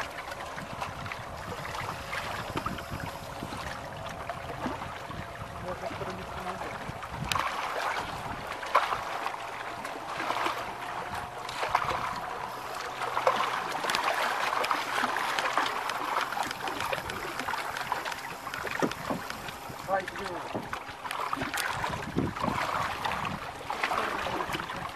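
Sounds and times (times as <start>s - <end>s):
waves lapping against boat hull: 0.0s - 24.9s.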